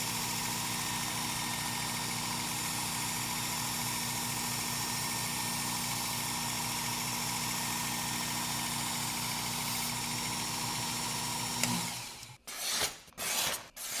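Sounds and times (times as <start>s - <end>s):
belt sharpener running: 0.0s - 12.4s.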